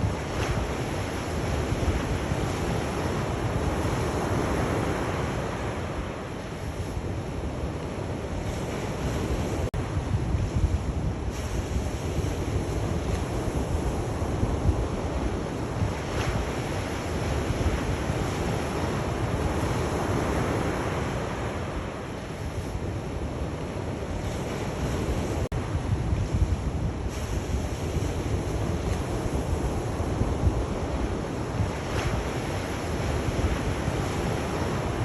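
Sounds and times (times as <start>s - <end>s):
sea waves washing in: 0.0s - 35.0s
wind rumble on microphone: 0.0s - 35.0s.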